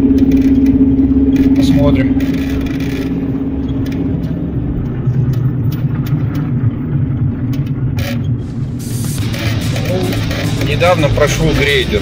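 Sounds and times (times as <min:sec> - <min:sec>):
car engine and tyre rumble: 0:00.0 - 0:12.0
steady road hum: 0:00.0 - 0:12.0.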